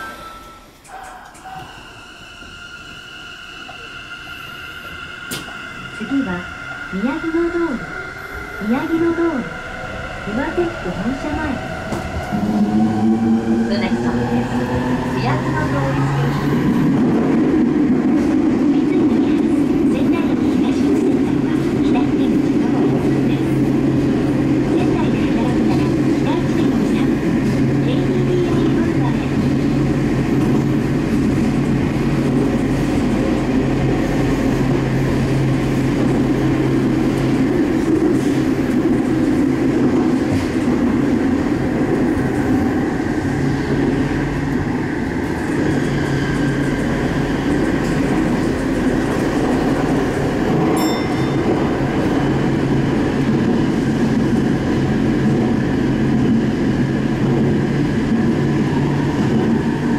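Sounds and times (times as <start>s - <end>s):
train wheels rumbling on rail: 3.6s - 59.9s.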